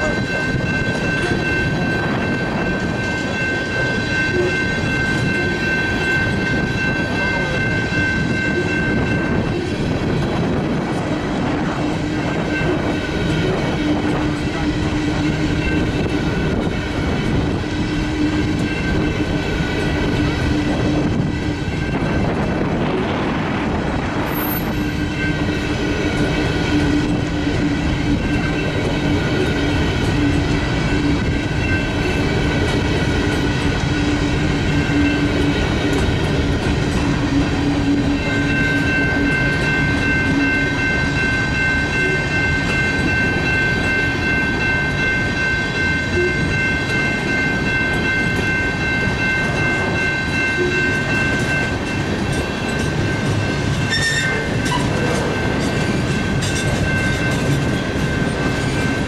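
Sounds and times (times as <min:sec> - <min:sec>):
high-pitched ring: 0:00.0 - 0:09.9, 0:11.8 - 0:22.4, 0:24.3 - 0:32.4, 0:36.9 - 0:59.0
train wheels on rails: 0:00.0 - 0:59.0.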